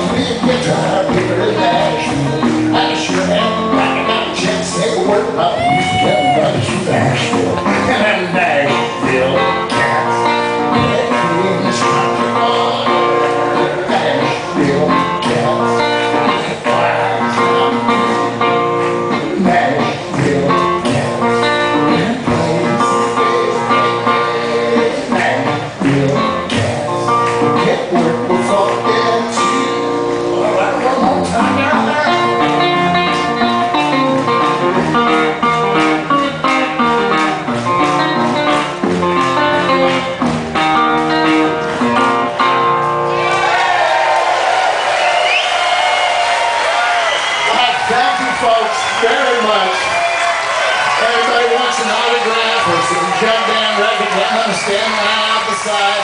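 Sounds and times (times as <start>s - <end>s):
guitar playing: 0.0s - 56.0s.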